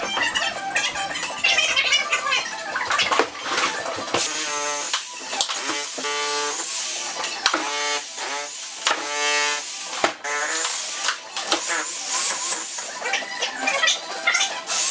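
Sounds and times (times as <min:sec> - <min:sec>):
background music with melody: 0:00.0 - 0:14.9.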